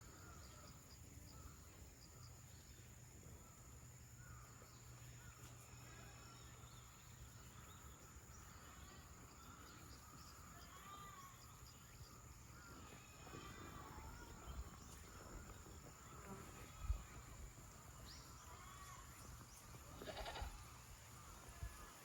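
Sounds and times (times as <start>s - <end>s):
distant bird calls: 0.0s - 22.0s
insect trill: 0.0s - 22.0s.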